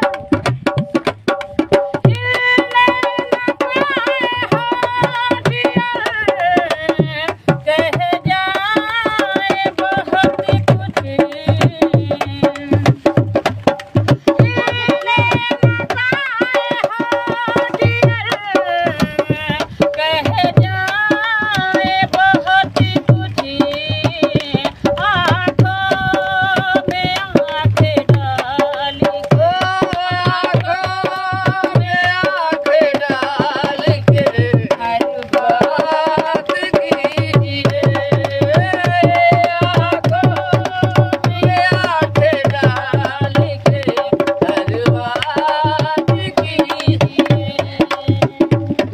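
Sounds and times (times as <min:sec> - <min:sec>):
hand drum rhythm: 0:00.0 - 0:48.9
person singing folk song: 0:00.0 - 0:48.9.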